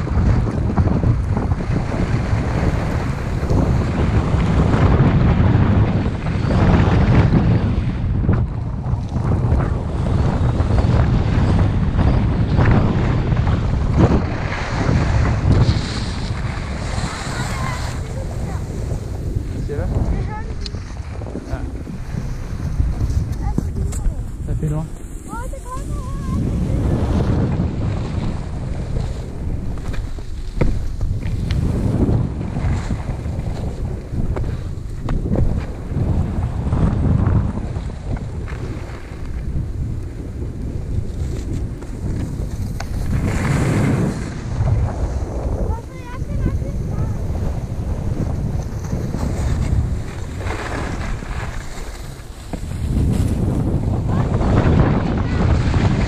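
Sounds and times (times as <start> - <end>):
skis scraping on packed snow: 0.0 - 7.0, 8.8 - 56.0
wind buffeting microphone: 0.0 - 56.0.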